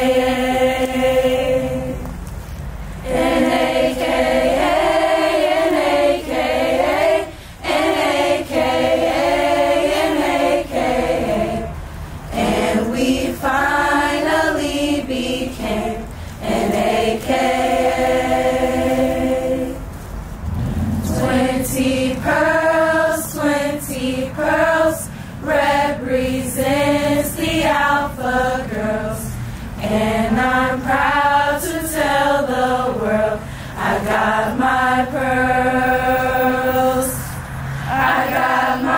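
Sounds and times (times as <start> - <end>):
women singing a cappella: 0.0 - 38.9.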